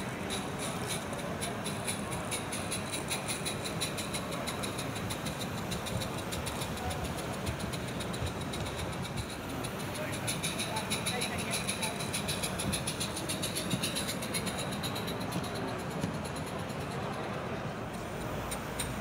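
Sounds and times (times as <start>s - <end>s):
model train ticking on track: 0.0s - 19.0s.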